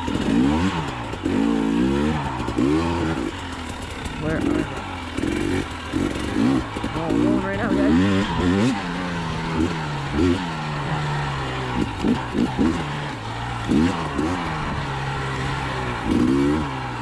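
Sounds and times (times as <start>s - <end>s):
engine throttle blips: 0.0s - 17.0s
motorcycle engine running: 0.0s - 17.0s.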